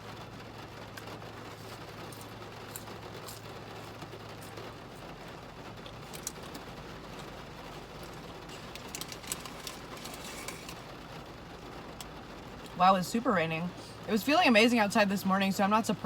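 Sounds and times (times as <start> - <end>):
rain falling on a car: 0.0 - 16.0.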